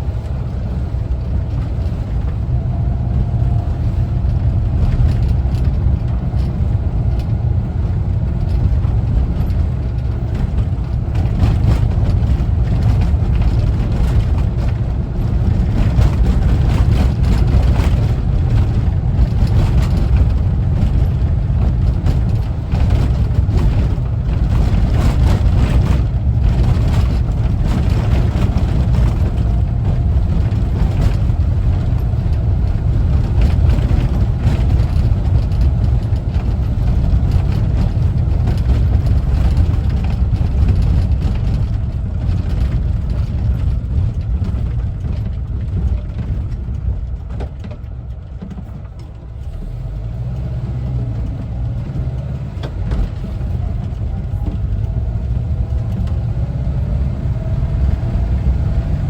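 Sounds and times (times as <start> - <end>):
road noise: 0.0 - 59.0
van engine running: 0.0 - 59.0.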